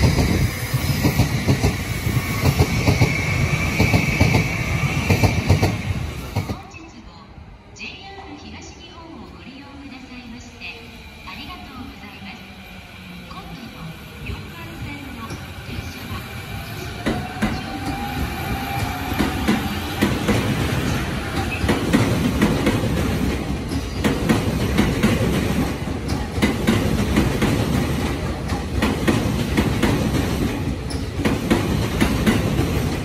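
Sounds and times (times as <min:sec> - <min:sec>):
train wheels rumbling on rail: 0:00.0 - 0:06.8, 0:08.5 - 0:33.0.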